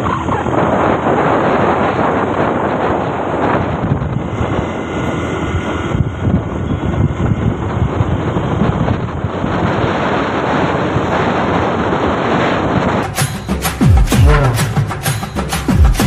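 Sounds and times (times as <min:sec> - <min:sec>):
wind buffeting microphone: 0:00.0 - 0:13.8
motorcycle engine: 0:00.0 - 0:16.0
road noise: 0:00.0 - 0:16.0.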